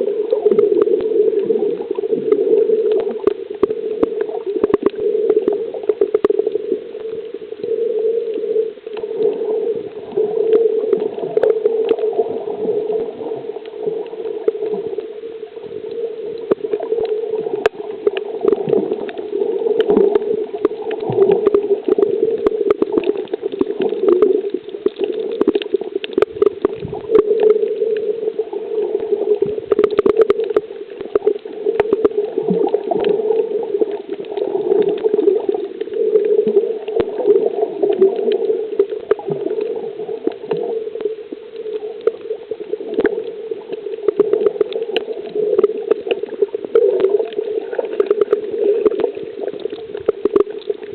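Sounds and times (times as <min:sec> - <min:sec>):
small clicks and splashes: 0:00.0 - 0:07.6, 0:08.3 - 0:50.9
water gurgling and sloshing: 0:00.0 - 0:50.9.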